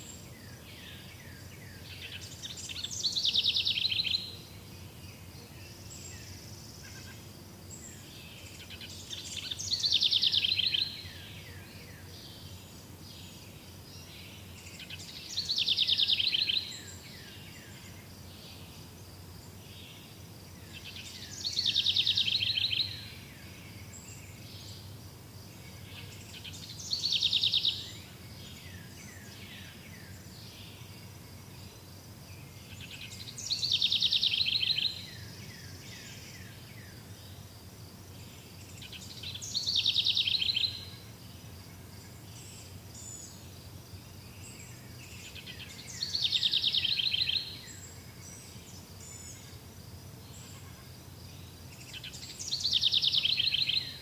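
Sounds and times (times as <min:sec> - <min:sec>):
bird song trill: 0:00.0 - 0:07.2, 0:07.8 - 0:37.5, 0:38.1 - 0:54.0
faint high insect drone: 0:00.0 - 0:54.0.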